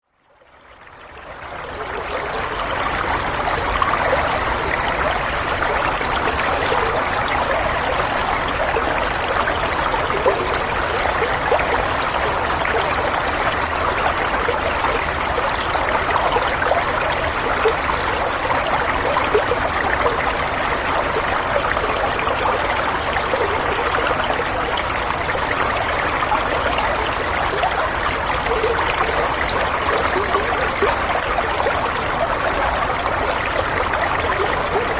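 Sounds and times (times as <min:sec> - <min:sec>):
running water rushing: 0:01.1 - 0:34.9.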